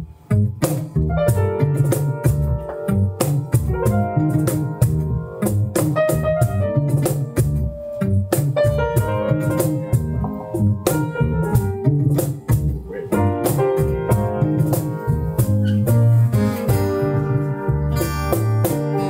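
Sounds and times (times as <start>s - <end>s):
electric bass: 0.0s - 19.0s
piano chords: 0.0s - 19.0s
percussion beat: 0.6s - 19.0s.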